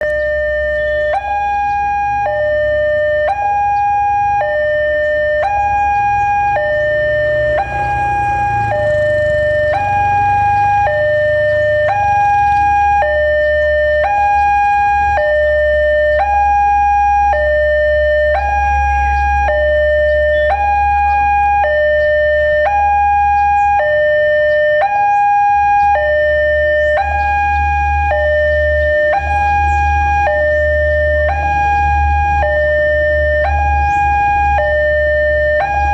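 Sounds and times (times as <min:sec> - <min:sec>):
level crossing two-tone alarm: 0:00.0 - 0:35.9.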